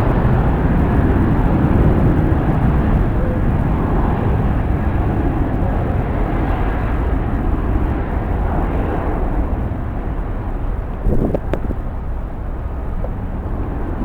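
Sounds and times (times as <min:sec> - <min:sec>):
jet engines running: 0:00.0 - 0:14.0
wind on microphone: 0:00.0 - 0:14.0.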